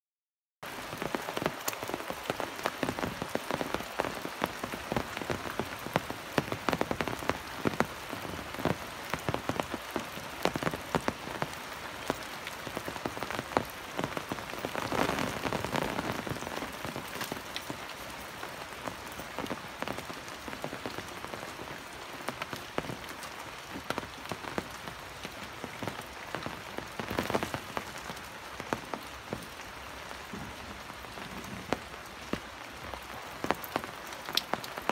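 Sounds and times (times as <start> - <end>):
rain falling on paving and trees: 0.6 - 34.9
sharp single raindrops: 0.7 - 34.9.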